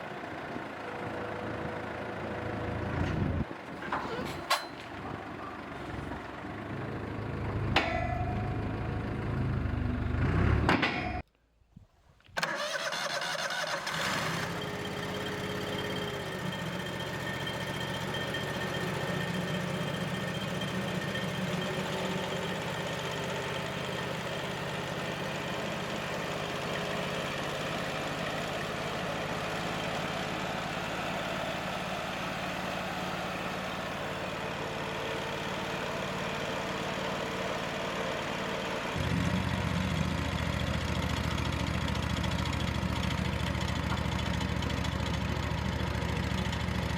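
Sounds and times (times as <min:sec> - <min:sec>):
engine running steadily: 0:00.0 - 0:11.2, 0:13.8 - 0:46.9.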